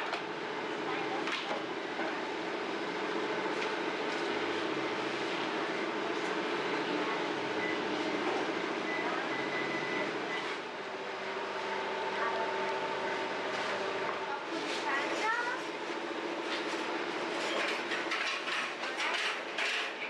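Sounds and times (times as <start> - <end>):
bakery machinery hum: 0.0 - 20.0.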